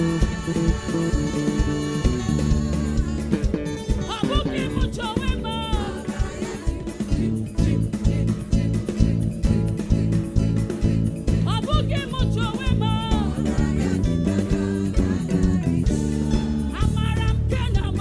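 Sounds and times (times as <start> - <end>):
live band playing praise song: 0.0 - 18.0.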